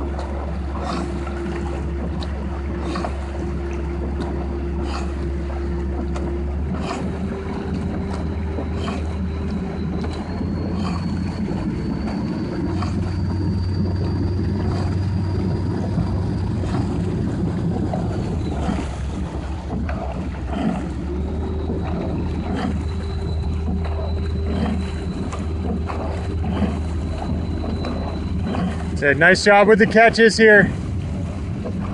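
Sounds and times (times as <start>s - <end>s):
outboard motor whining: 0.0s - 31.9s
water washing: 0.0s - 31.9s.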